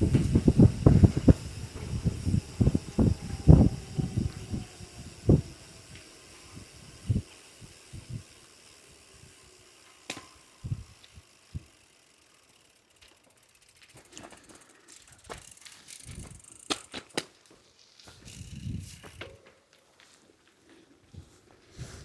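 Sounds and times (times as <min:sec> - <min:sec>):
rapid fine ticks: 0:00.0 - 0:19.4
bicycle rattling over gravel: 0:00.0 - 0:22.0.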